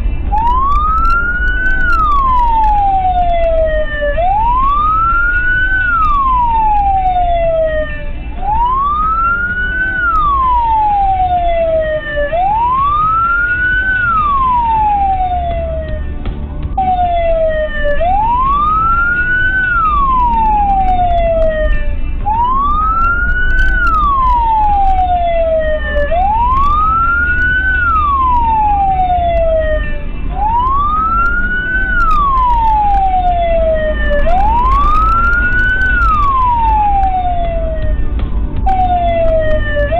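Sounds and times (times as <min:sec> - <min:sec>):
distant sirens: 0:00.0 - 0:39.9
emergency siren wailing: 0:00.0 - 0:39.9
low road rumble: 0:00.0 - 0:39.9.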